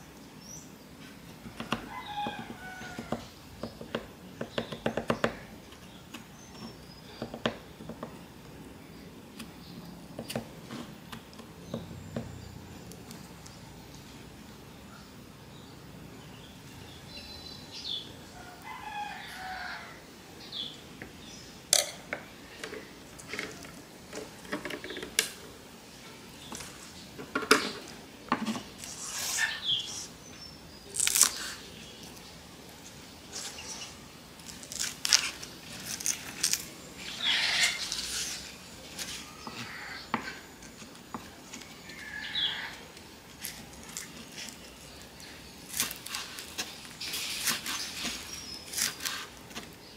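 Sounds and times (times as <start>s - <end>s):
faint birds calling: 0.0s - 49.9s.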